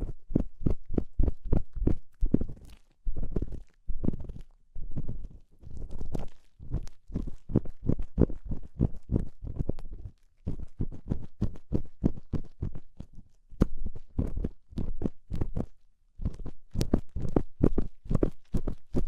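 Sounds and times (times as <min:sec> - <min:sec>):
scraping on microphone ears: 0:00.0 - 0:19.0.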